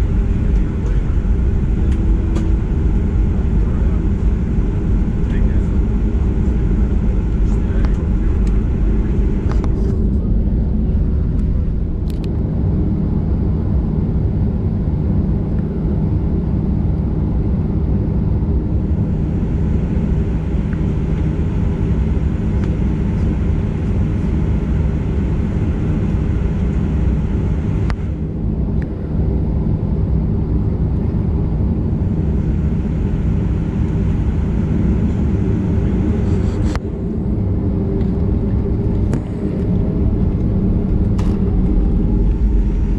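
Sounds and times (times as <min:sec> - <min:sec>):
airplane engine hum in cabin: 0:00.0 - 0:42.9.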